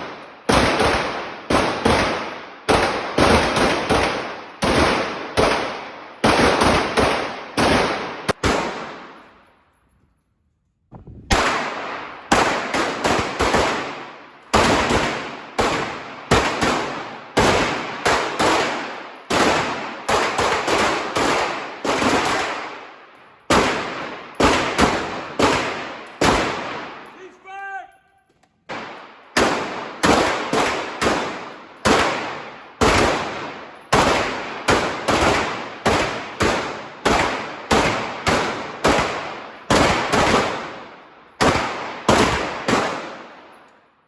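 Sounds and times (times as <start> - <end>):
pistol shots echoing: 0.0 - 9.6, 11.3 - 43.7.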